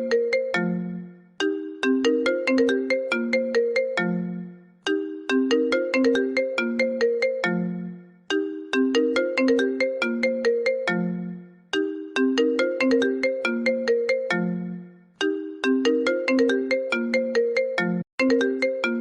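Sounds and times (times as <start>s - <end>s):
phone ringtone melody: 0.0s - 19.0s.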